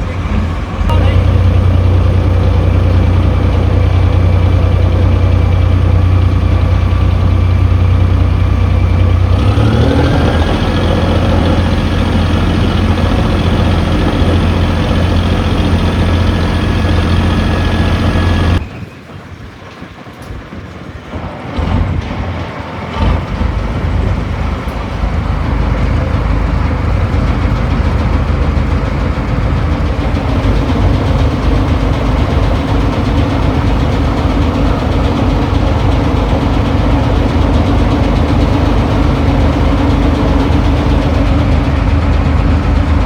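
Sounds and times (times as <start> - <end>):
boat engine running: 0.0 - 18.7, 21.5 - 43.0.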